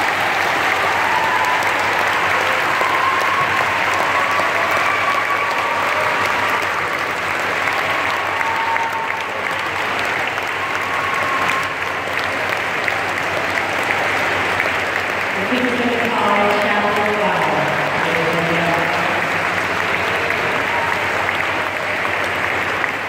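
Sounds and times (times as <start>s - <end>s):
large audience applauding: 0.0s - 23.0s.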